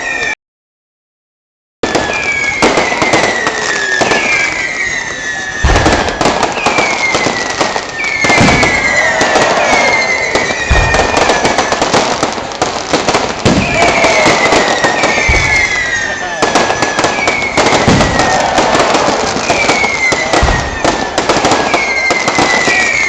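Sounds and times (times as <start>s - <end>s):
whistling fireworks: 0.0s - 0.4s, 1.8s - 23.0s
fireworks booming: 1.8s - 23.0s
fireworks crackling: 1.8s - 23.0s.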